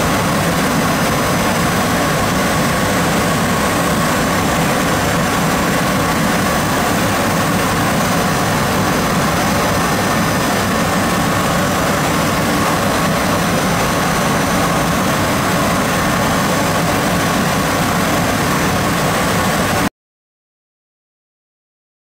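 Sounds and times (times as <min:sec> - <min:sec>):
milling machine running: 0:00.0 - 0:19.9.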